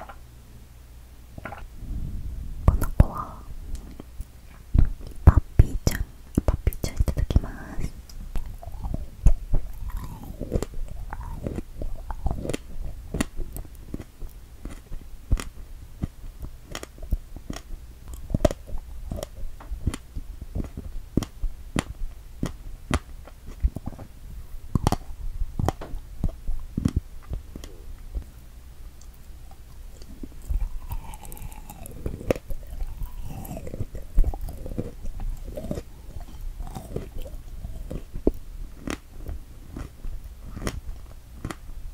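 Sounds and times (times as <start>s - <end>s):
chewing strawberry: 2.7s - 41.7s.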